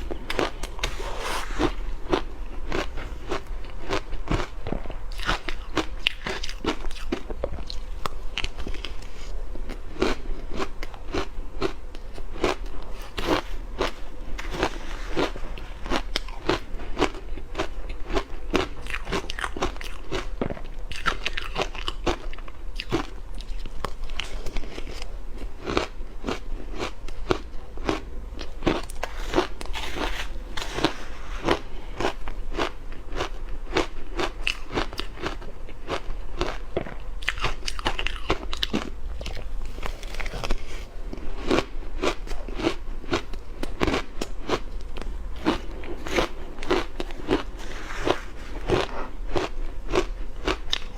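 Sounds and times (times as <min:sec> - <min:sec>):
ice crunching being chewed: 0:00.0 - 0:50.9.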